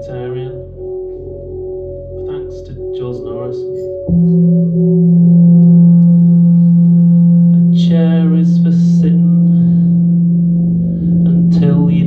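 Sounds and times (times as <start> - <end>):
loud low drone: 0.0 - 12.0
wavering vocal sound: 0.0 - 12.0.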